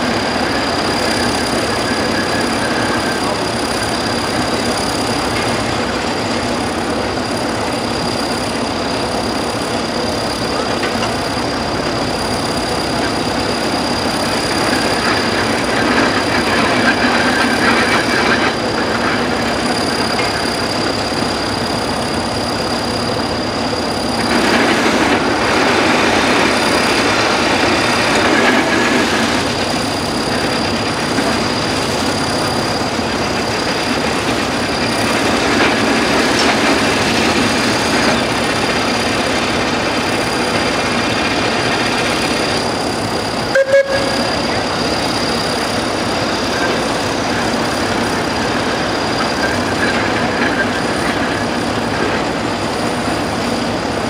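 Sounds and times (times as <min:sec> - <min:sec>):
steam engine and gearing: 0:00.0 - 0:54.0.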